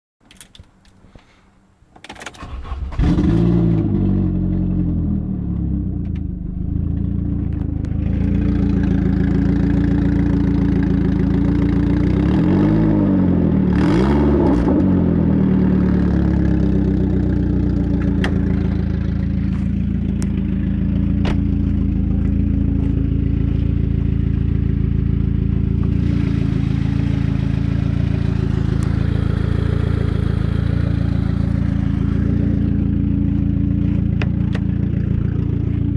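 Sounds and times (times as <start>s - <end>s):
car engine starting and idling: 2.0s - 35.9s
car engine revving: 2.4s - 35.9s.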